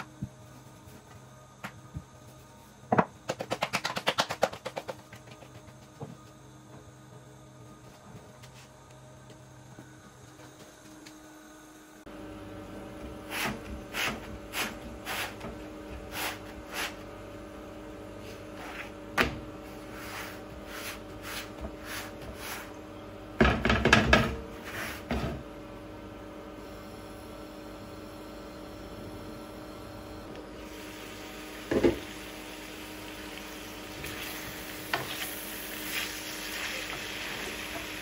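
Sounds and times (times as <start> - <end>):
steady hum: 0.0 - 38.0.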